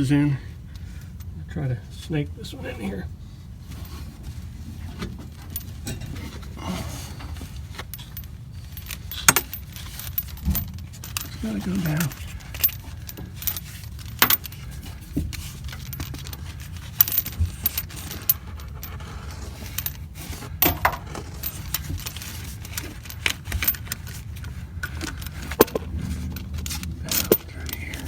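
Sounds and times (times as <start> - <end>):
steady low hum: 0.0 - 28.0
hose scraping and knocking on metal: 3.7 - 28.0.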